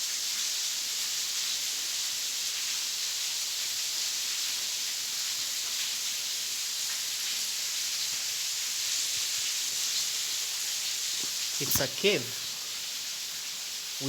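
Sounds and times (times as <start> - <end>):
waterfall hissing: 0.0 - 14.0.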